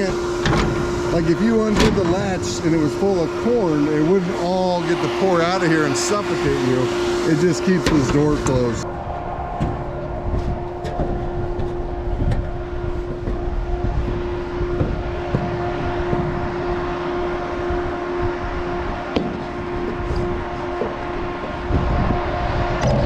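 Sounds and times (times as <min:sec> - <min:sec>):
farm machinery droning: 0:00.0 - 0:23.0.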